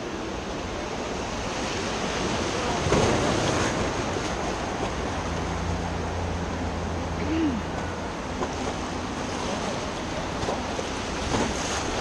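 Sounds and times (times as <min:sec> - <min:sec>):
wave splash: 0:00.0 - 0:12.0
whitewater rushing: 0:00.0 - 0:12.0.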